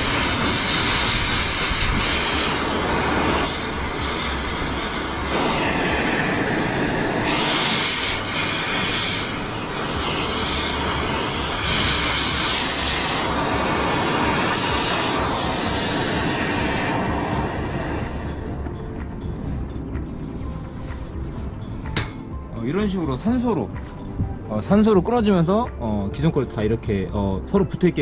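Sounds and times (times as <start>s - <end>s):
torch flame hissing: 0.0s - 23.7s.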